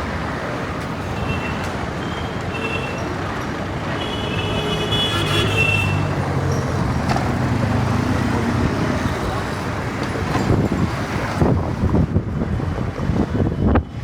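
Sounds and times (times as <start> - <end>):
vehicle engine: 0.0 - 13.5
engines and road noise: 0.0 - 14.0.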